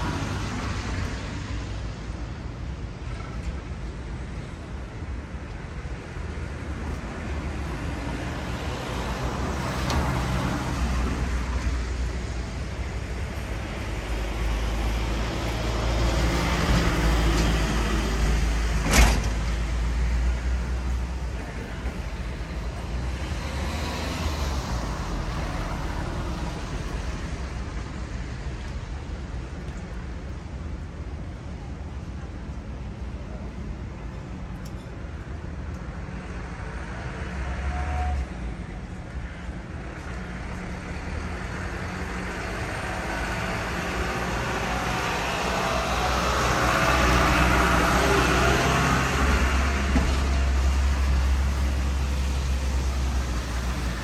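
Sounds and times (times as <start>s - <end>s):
heavy vehicle engine rumble: 0.0s - 54.0s.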